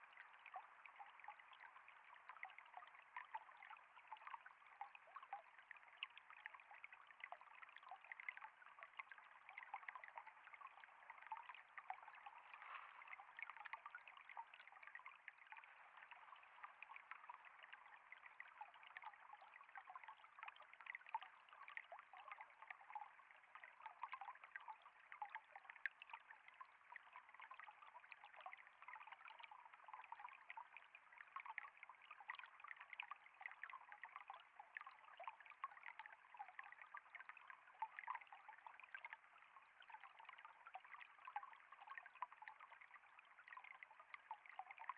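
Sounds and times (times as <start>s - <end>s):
faint trickle of flowing water: 0.0s - 44.9s.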